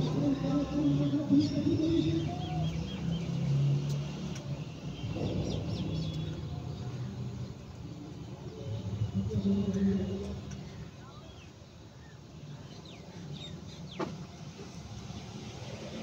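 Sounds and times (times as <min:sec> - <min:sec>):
birds chirping: 0:00.0 - 0:15.4.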